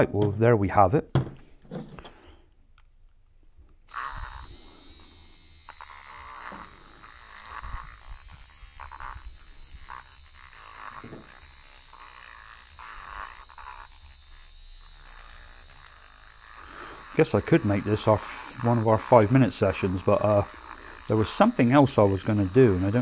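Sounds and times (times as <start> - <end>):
mini mixer whirring: 3.9 - 23.0.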